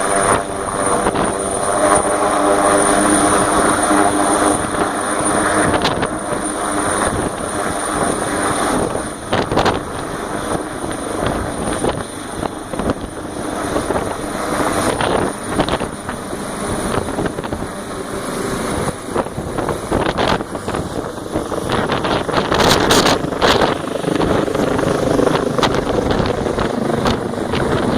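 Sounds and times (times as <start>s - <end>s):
helicopter turbine and rotor noise: 0.0s - 27.9s.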